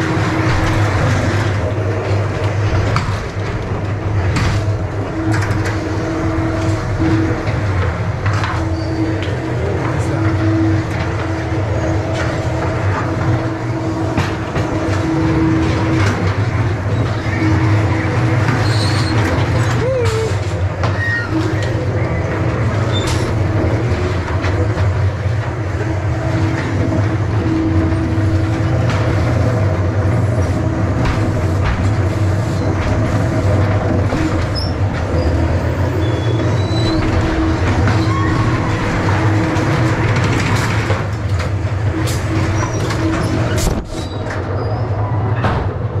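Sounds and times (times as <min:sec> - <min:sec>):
wheels clicking and clacking: 0:00.0 - 0:44.6
ride car rumbling on rails: 0:00.0 - 0:46.0.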